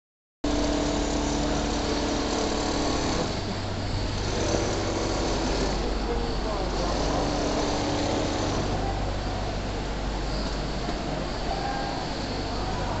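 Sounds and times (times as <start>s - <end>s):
quilting machine humming: 0.5s - 11.2s.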